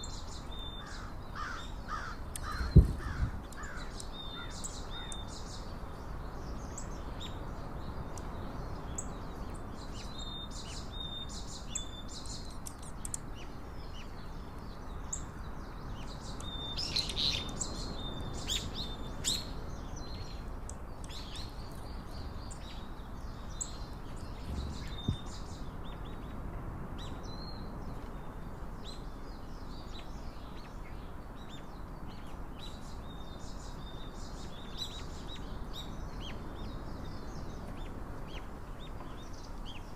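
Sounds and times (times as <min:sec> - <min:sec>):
small birds chirping: 0:00.0 - 0:39.9
steady low background noise: 0:00.0 - 0:39.9.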